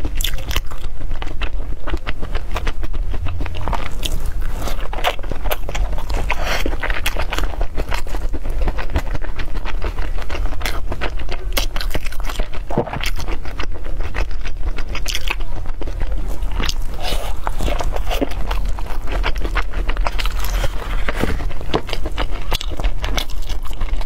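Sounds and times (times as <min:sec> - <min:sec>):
crunching food: 0:00.0 - 0:24.0
wet chewing clicks and smacks: 0:00.0 - 0:24.0.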